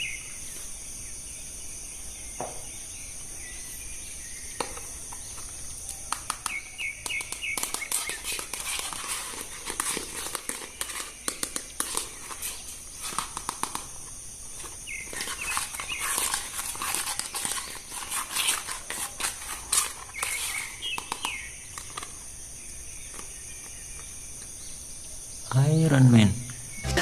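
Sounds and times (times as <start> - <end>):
high insect drone: 0.0 - 27.0.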